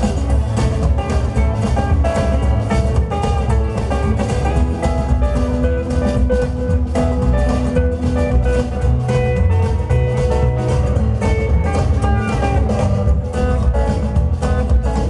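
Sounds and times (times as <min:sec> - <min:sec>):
acoustic guitar: 0:00.0 - 0:15.0
drum kit: 0:00.0 - 0:15.0
electric guitar: 0:00.0 - 0:15.0
upright double bass: 0:00.0 - 0:15.0.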